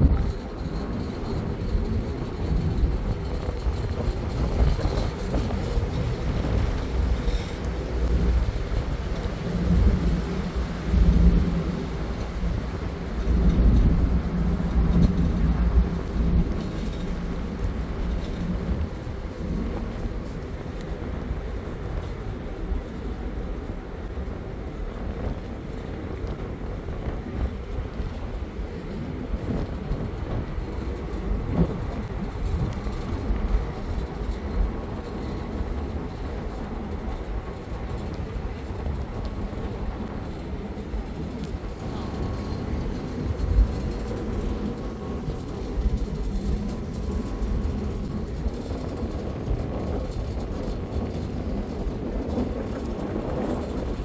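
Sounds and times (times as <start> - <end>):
ferry engines droning: 0.0 - 54.0
wind and water rushing: 0.0 - 54.0.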